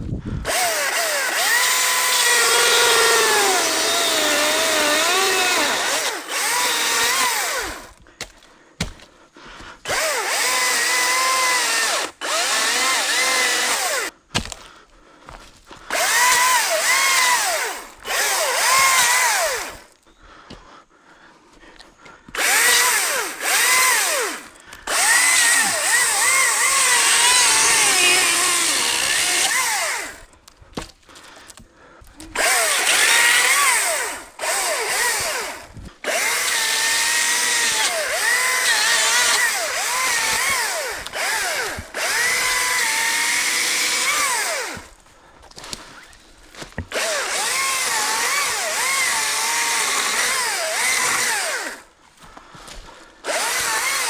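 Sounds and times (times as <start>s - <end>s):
chainsaw cutting wood: 0.4s - 9.1s, 9.8s - 14.7s, 15.4s - 20.0s, 22.2s - 52.0s, 52.6s - 54.0s.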